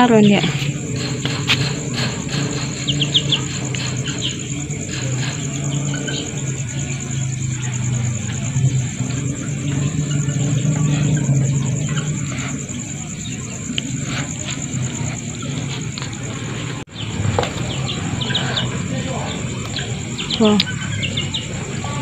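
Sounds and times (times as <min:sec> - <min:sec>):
crickets trilling: 0:00.0 - 0:22.0
short insect chirps: 0:00.0 - 0:22.0.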